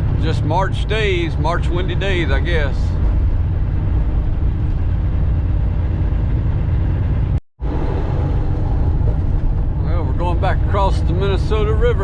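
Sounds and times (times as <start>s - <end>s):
road noise: 0.0s - 12.0s
truck engine rumble: 0.0s - 12.0s.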